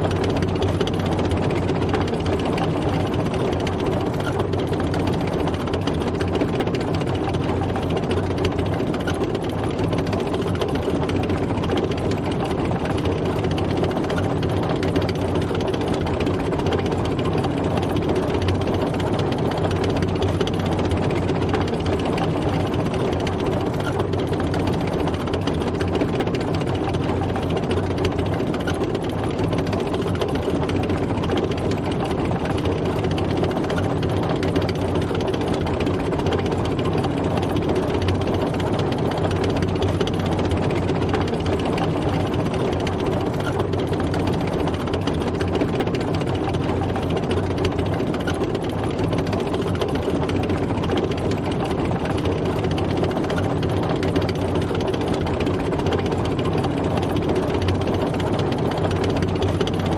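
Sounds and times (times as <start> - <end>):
tank engine running: 0.0 - 59.9.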